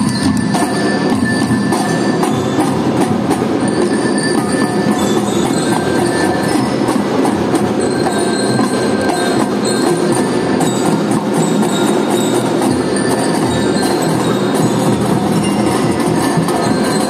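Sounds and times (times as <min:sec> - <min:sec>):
mallet-struck bells: 0:00.0 - 0:17.0
snare and bass drums: 0:00.0 - 0:17.0.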